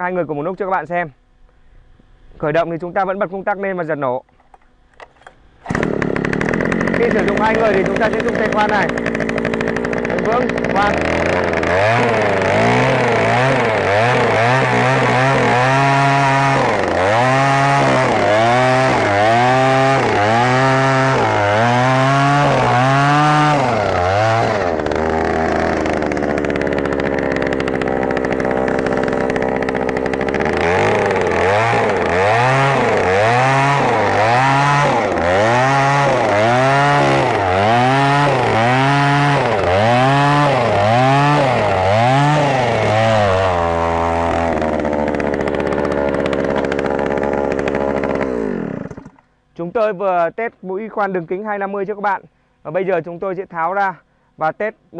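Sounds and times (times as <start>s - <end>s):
earth auger engine drilling: 4.3s - 49.8s.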